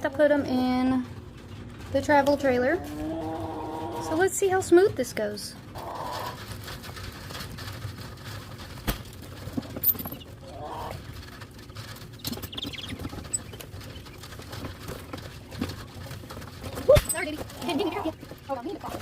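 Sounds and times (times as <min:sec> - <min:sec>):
rustling and scrabbling: 0:00.0 - 0:19.0.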